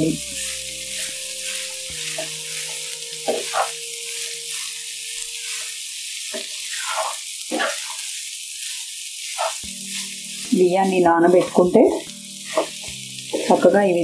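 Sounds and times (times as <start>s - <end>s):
rice sizzling in hot fat: 0.0s - 14.0s.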